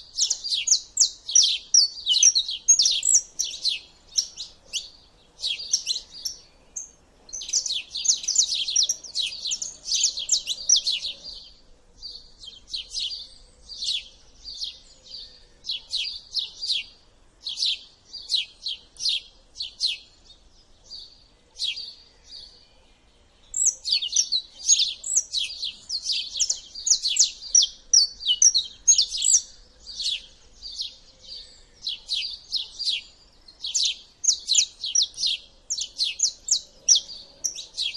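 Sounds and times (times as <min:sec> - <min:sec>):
songbirds chirping and singing: 0:00.0 - 0:37.9.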